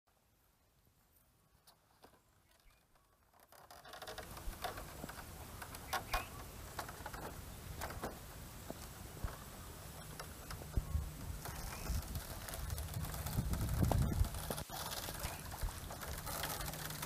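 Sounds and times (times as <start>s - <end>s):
soft barefoot steps: 1.0s - 17.0s
bamboo poles clacking: 1.6s - 17.0s.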